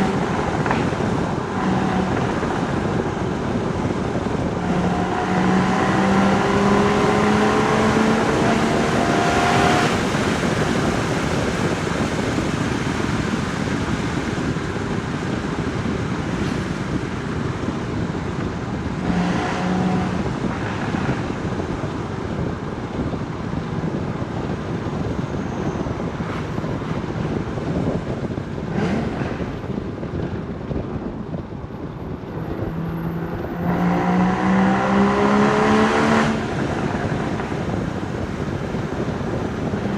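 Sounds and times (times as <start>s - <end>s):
sports car engine accelerating: 0.0s - 39.9s
wind and road rush: 0.0s - 39.9s.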